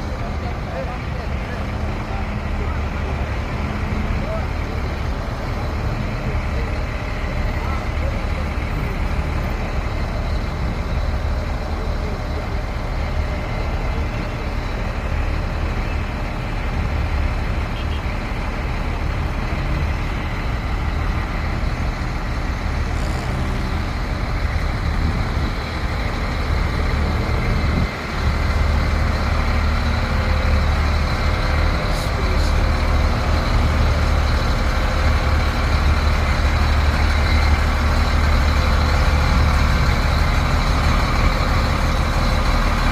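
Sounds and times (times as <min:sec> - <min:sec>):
diesel machinery engine rumbling: 0:00.0 - 0:42.9.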